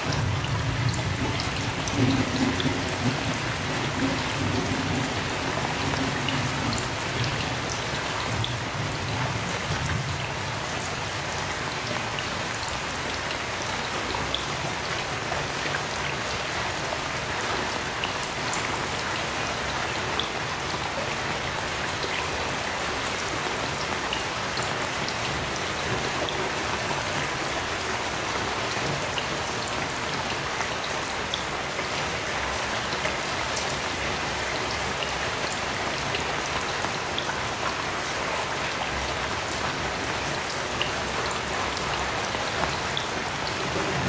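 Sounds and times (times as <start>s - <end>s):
raindrops ticking: 0.0s - 16.6s, 23.6s - 44.0s
heavy rain hissing: 0.0s - 44.0s.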